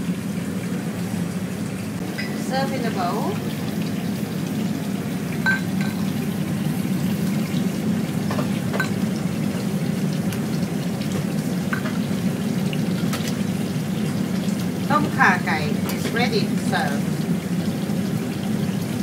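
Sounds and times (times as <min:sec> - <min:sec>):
gas burner rushing: 0:00.0 - 0:19.0
liquid pouring: 0:00.0 - 0:19.0.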